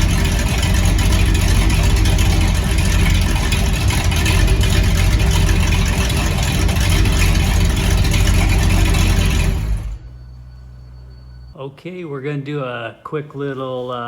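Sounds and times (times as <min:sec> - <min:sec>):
loud engine running: 0:00.0 - 0:11.4.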